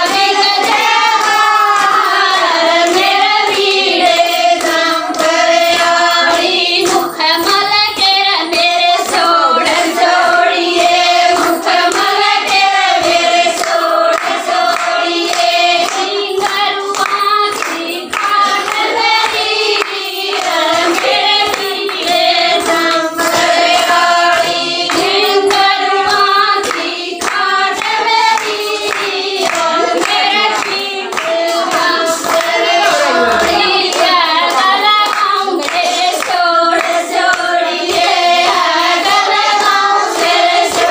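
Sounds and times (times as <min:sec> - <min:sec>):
hand-clapping: 0:00.0 - 0:40.9
women singing folk song: 0:00.0 - 0:40.9.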